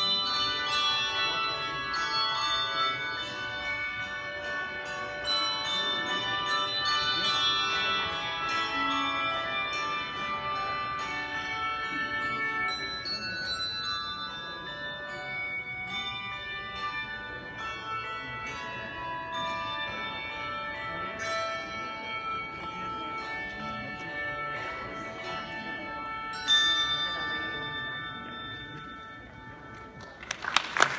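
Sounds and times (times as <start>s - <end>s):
bells ringing: 0.0s - 30.9s.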